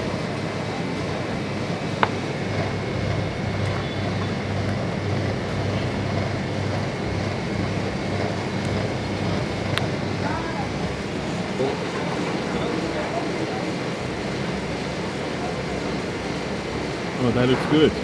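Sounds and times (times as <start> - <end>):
low engine rumble: 0.0 - 18.0
street traffic: 0.0 - 18.0.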